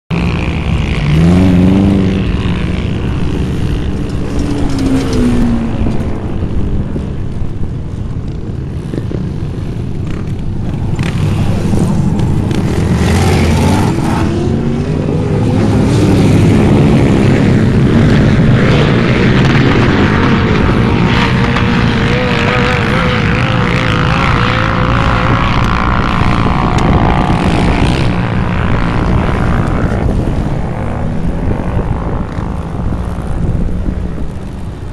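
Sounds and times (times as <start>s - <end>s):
off-road engines revving: 0.1s - 34.9s.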